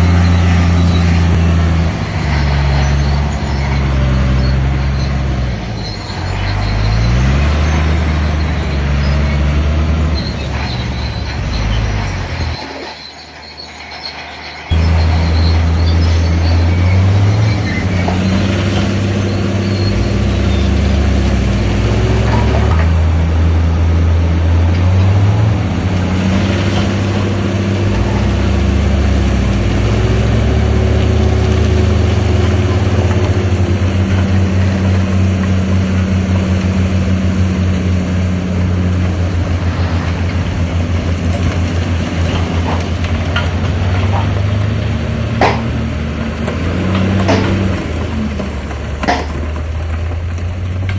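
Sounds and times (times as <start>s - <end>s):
heavy diesel engine revving: 0.0s - 50.9s.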